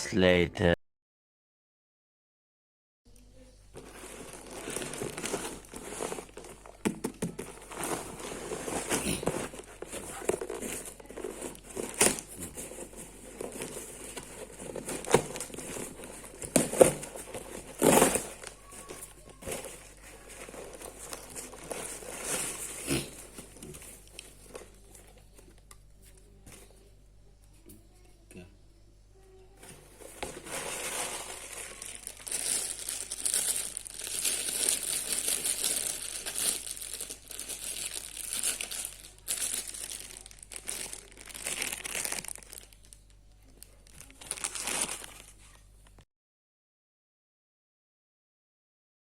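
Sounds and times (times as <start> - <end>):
crinkling and rustling handling: 3.7 - 28.3, 29.2 - 46.0.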